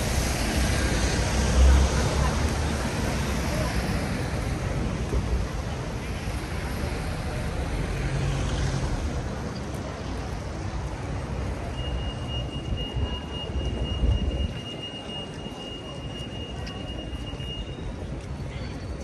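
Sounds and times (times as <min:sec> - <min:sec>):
people's voices: 0:00.0 - 0:19.0
traffic on wet road: 0:00.0 - 0:19.0.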